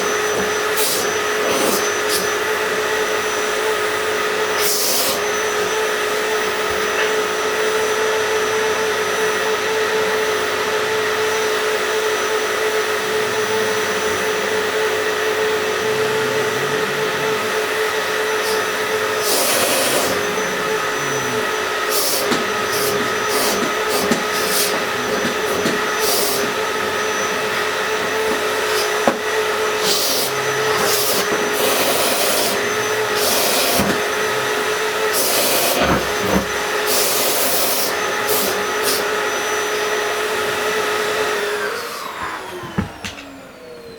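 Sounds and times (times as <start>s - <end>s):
vacuum cleaner whine: 0.0s - 43.9s.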